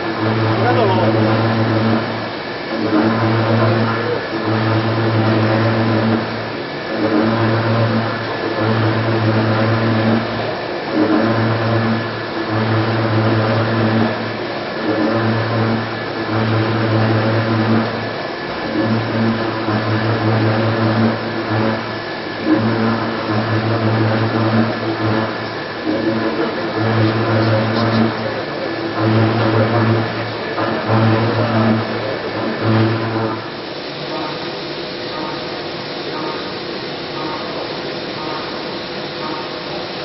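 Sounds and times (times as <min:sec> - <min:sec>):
milling machine hum: 0:00.0 - 0:40.0.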